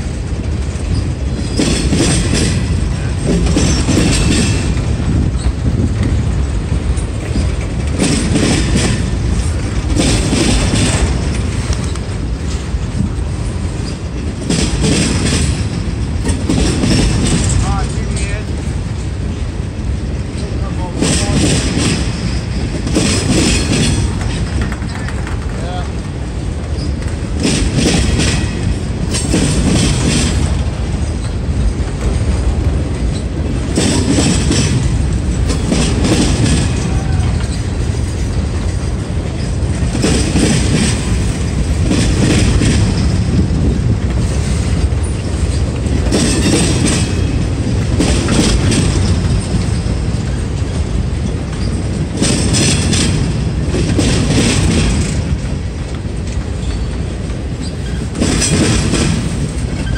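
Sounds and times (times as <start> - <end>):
clickety-clack of wheels: 0.0 - 59.9
train wheels rumbling on rail: 0.0 - 59.9.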